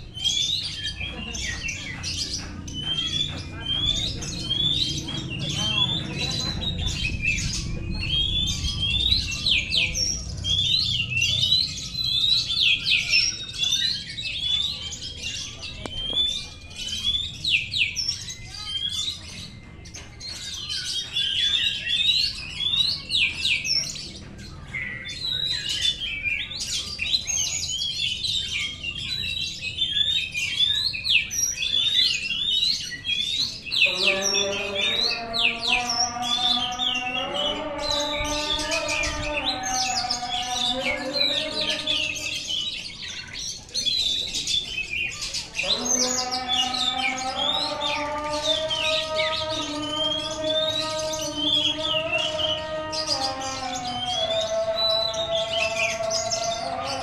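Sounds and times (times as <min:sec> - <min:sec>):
birds singing whistles and chirps: 0:00.0 - 0:57.0.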